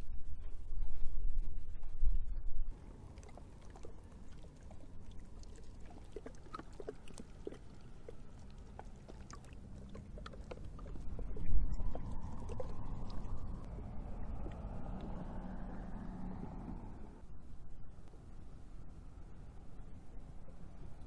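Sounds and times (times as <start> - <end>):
wind rumbling on microphone: 0.0 - 21.0
faint river water: 2.7 - 21.0.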